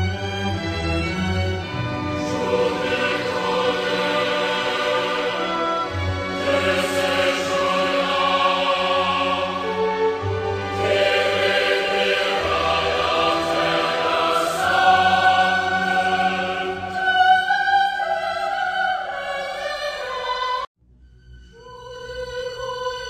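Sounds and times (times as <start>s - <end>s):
mournful choir-like music: 0.0s - 20.7s, 21.5s - 23.0s.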